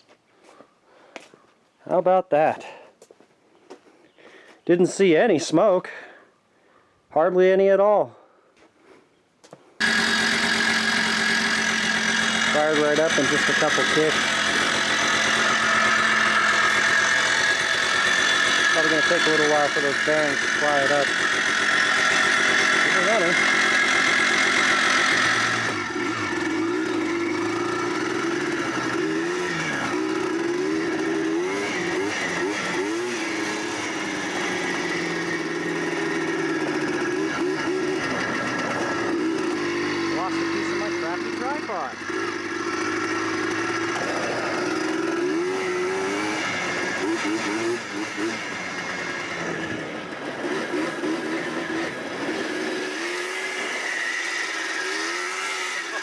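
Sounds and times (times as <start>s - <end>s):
two-stroke engine revving: 9.8s - 56.0s.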